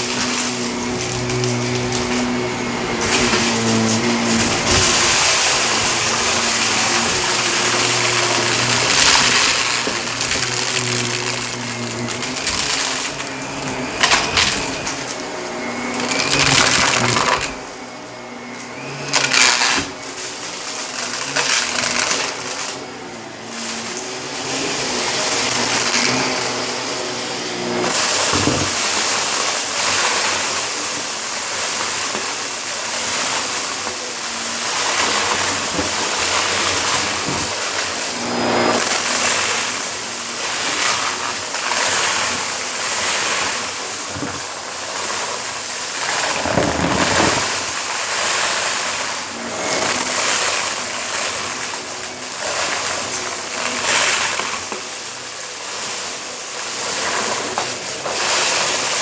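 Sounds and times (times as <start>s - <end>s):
debris rattling through vacuum: 0.0s - 59.0s
vacuum cleaner on carpet: 0.0s - 59.0s.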